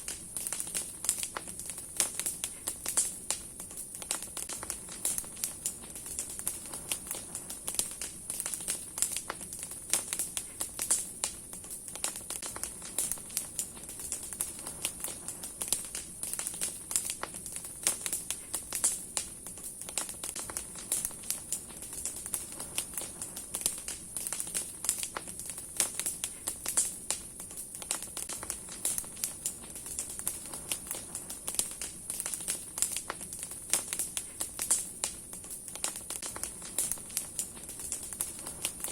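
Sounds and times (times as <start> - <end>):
bonfire crackling and popping: 0.0 - 38.9
fire hiss: 0.0 - 38.9.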